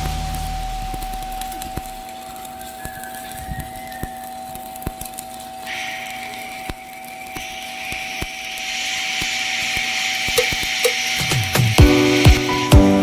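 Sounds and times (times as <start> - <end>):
welding arc hissing and crackling: 0.0 - 13.0.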